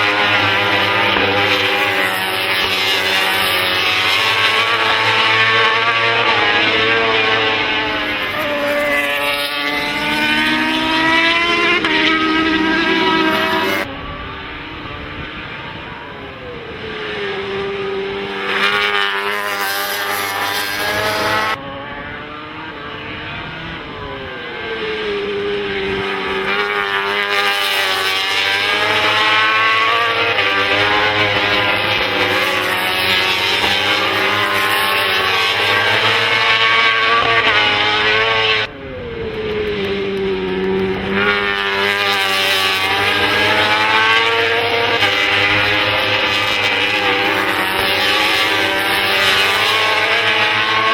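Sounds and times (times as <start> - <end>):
race motorcycle engines at high revs: 0.0 - 50.9.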